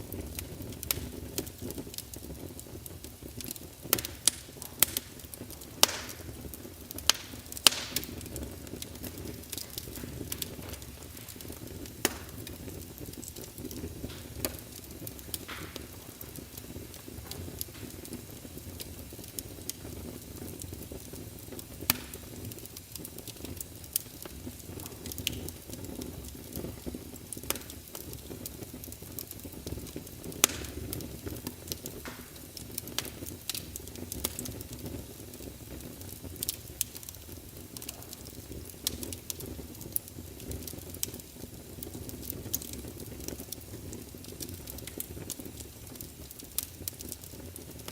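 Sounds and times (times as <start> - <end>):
logs crackling and popping: 0.0 - 47.9
low rumble of flames: 0.0 - 47.9.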